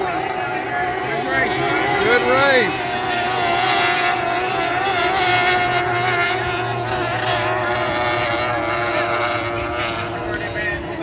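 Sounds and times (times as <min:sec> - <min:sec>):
powerboat engines high whine: 0:00.0 - 0:11.0.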